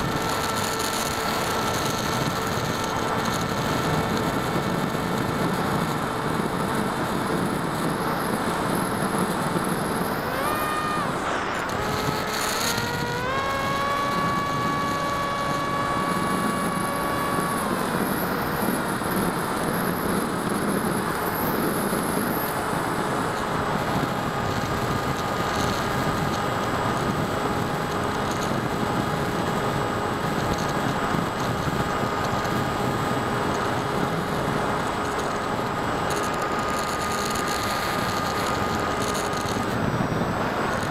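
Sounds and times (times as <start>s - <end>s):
model plane motor whining: 0.0s - 40.9s.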